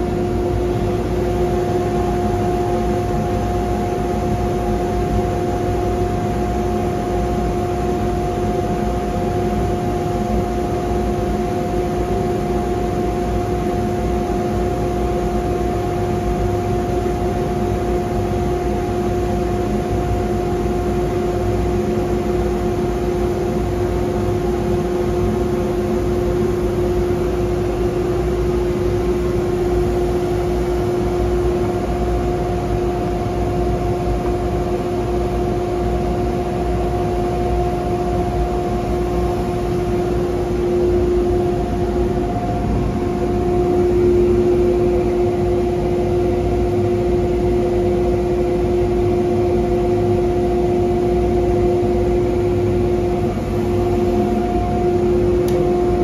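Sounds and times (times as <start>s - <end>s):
machine hum with dust collector: 0.0s - 56.0s.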